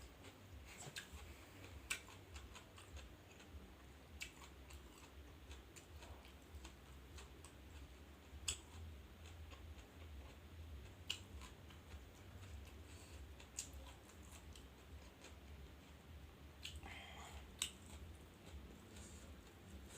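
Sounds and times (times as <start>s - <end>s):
crunchy chewing: 0.0s - 19.9s
low steady hum: 0.0s - 19.9s.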